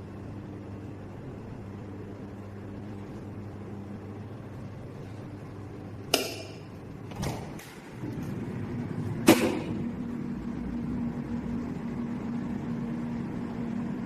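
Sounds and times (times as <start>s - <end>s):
electric fan motor humming: 0.0s - 14.0s.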